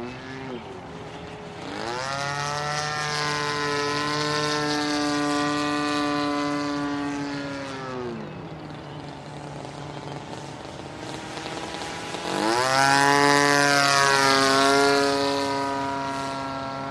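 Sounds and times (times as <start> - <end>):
model airplane engine and propeller: 0.0 - 16.9.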